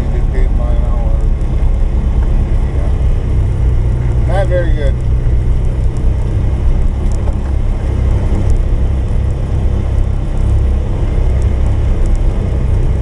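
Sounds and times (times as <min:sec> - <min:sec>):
single-cylinder engine droning: 0:00.0 - 0:13.0.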